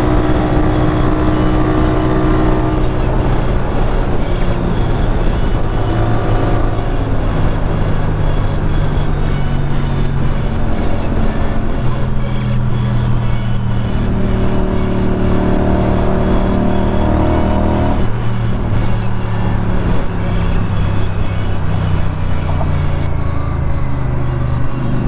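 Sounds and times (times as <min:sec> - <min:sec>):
higher steady hum: 0:00.0 - 0:25.0
motorcycle engine cruising: 0:00.0 - 0:25.0.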